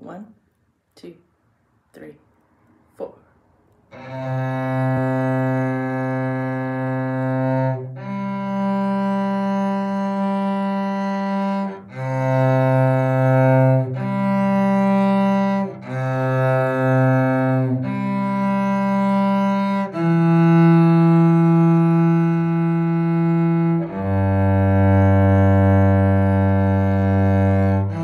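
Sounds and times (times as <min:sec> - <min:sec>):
cello bowed notes: 0:03.9 - 0:28.0.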